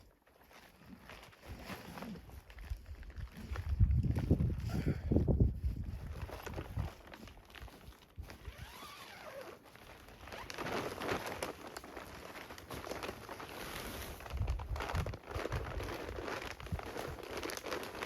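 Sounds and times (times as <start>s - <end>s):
tarps rustling and crinkling: 0.0s - 18.0s.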